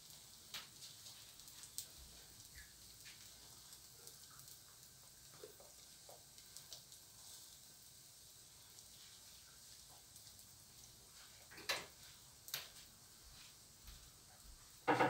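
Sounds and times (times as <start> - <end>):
faint sizzle on a hot pan: 0.0 - 15.0.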